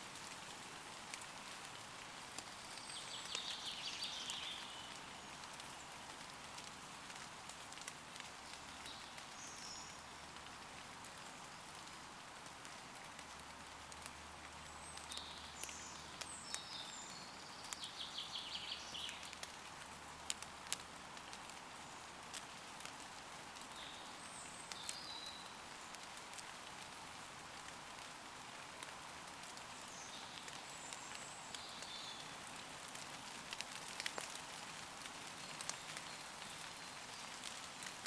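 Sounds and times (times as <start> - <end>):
light rain on leaves: 0.0 - 38.0
raindrops ticking: 0.0 - 38.0.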